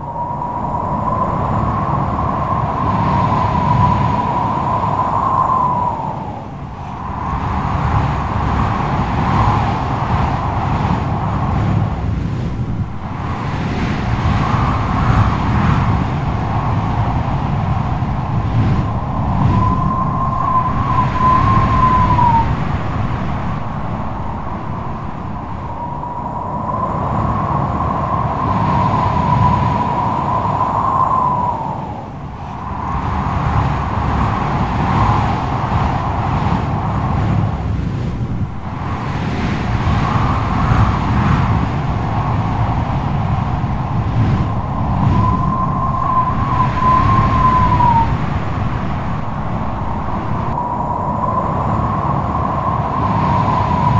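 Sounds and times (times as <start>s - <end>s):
strong gusting wind: 0.0s - 53.9s
wind whistling: 0.0s - 53.9s.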